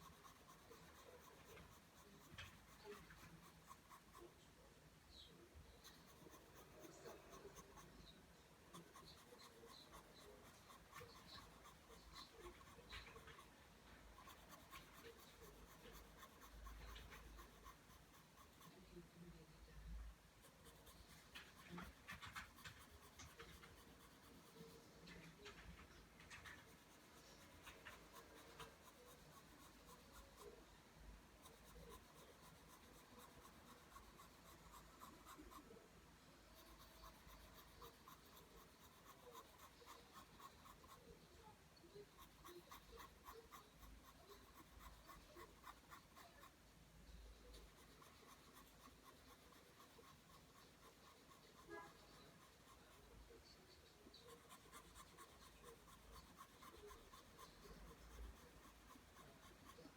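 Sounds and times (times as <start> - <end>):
pencil scratching on paper: 0.0 - 59.9.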